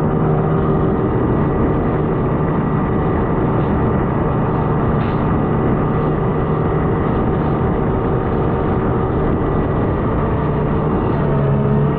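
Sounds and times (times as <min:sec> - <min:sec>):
boat engine droning: 0:00.0 - 0:11.9
wind: 0:00.0 - 0:11.9.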